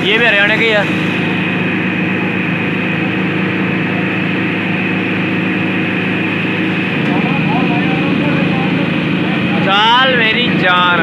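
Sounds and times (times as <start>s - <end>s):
tractor diesel engines droning: 0.0s - 11.0s.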